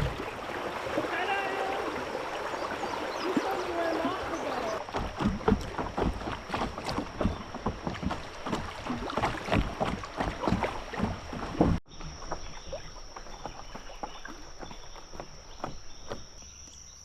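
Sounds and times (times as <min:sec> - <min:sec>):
paddle knocking on hull: 0:00.0 - 0:16.6
water splashing: 0:00.0 - 0:16.7.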